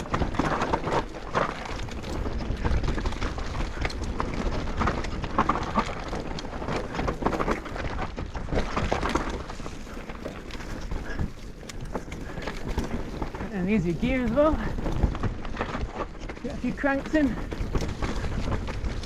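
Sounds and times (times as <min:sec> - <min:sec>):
bike chain and frame clattering: 0:00.0 - 0:19.0
bike tyres rumbling on dirt: 0:00.0 - 0:19.0.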